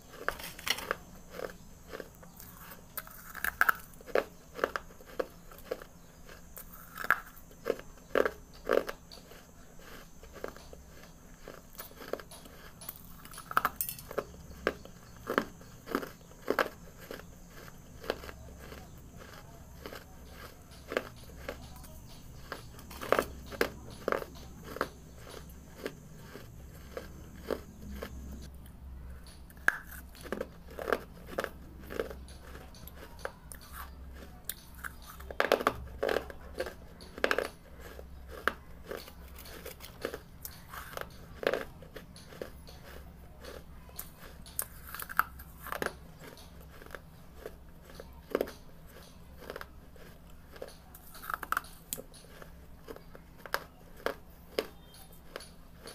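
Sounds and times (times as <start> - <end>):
person chewing crunchy clay: 0.0 - 55.9
steady low hum: 0.0 - 55.9.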